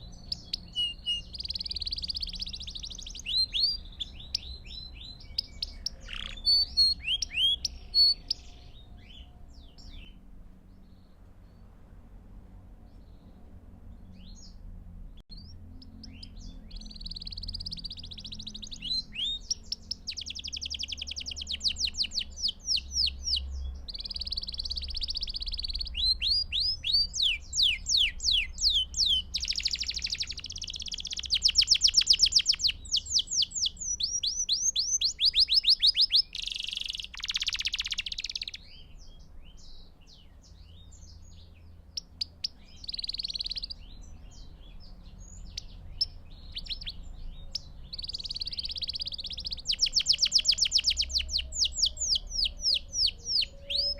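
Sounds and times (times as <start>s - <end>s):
canary singing trills: 0.0s - 11.8s, 12.9s - 53.9s.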